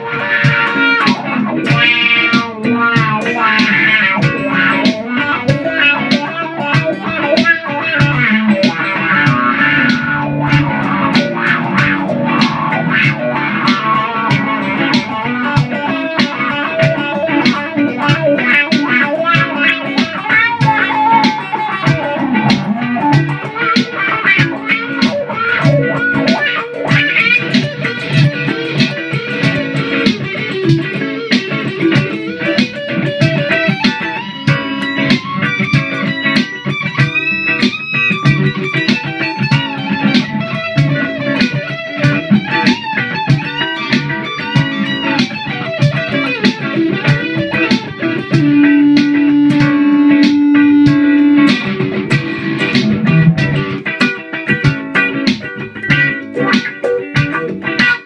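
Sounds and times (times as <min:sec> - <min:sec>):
electric guitar picking notes: 0:00.0 - 0:58.0.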